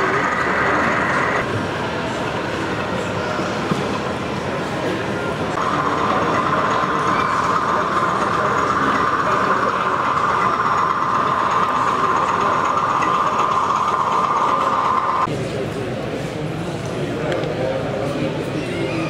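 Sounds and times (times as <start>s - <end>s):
model locomotives humming: 0.0s - 15.3s.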